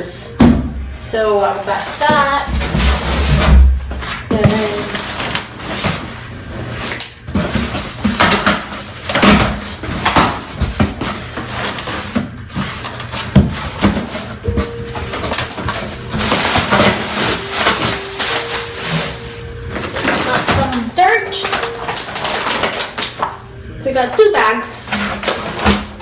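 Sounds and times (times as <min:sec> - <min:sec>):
plastic pots rustling and knocking: 0:01.7 - 0:23.4, 0:24.9 - 0:26.0.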